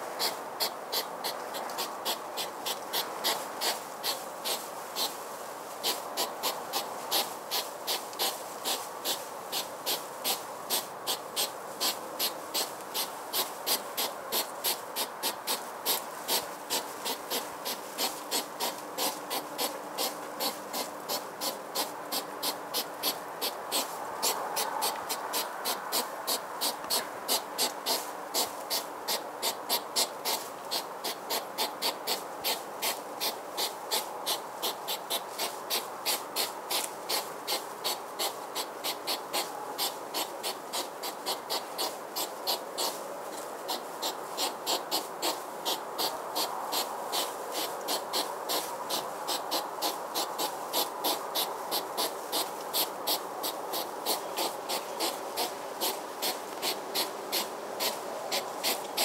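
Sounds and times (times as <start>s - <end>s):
constant hiss: 0.0s - 59.0s.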